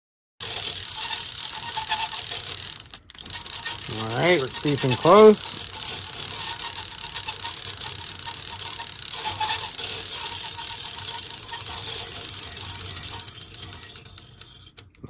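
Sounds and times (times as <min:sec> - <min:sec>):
fishing reel whirring and clicking: 0:00.4 - 0:14.9.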